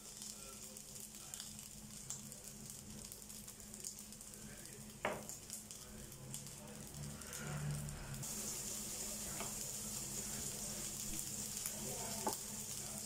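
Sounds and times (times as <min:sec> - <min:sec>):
rice cake sizzling in pan: 0:00.0 - 0:13.0.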